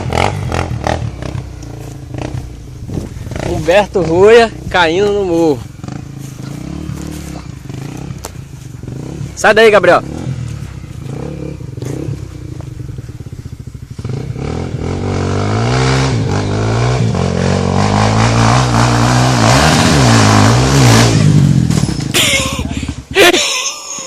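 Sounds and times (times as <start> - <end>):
motorcycle engine revving: 0.0 - 23.4.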